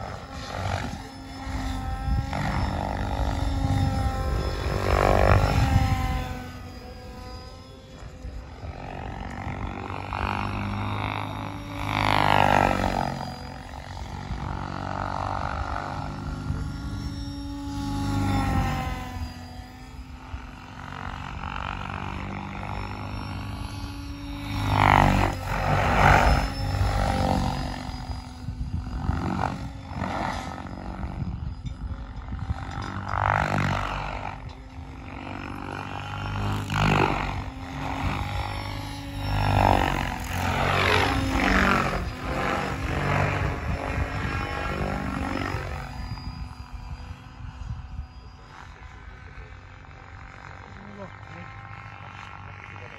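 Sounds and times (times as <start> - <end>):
helicopter rotor drone: 0.0 - 52.9.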